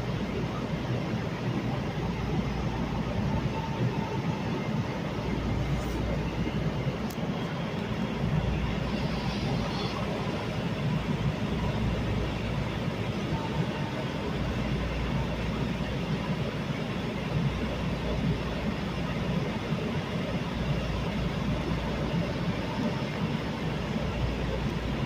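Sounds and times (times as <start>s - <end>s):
train rumbling inside car: 0.0s - 25.0s.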